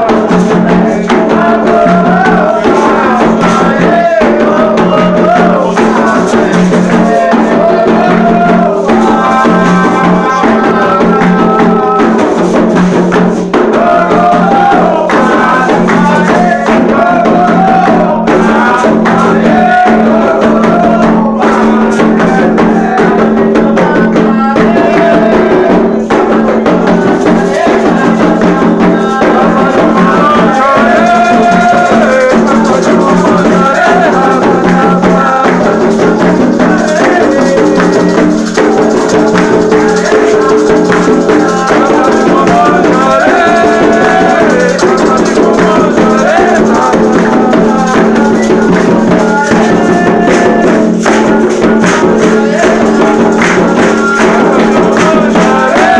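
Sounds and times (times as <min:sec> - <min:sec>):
hand drums: 0:00.0 - 0:55.9
voices singing a chant: 0:00.0 - 0:55.9.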